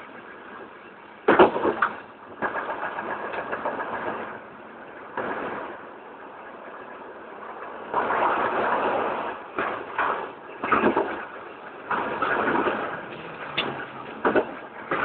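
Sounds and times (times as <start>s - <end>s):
passenger train rushing rumble: 0.0s - 15.0s.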